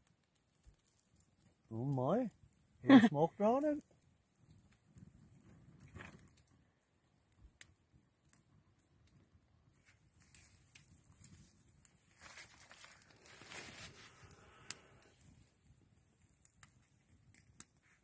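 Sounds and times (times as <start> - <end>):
small fire crackling: 0.0 - 18.0.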